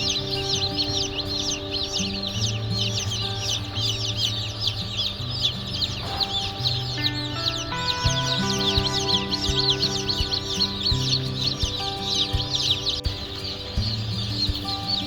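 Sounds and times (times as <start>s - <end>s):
background music with held notes: 0.0s - 15.0s
chicks peeping: 0.0s - 15.0s.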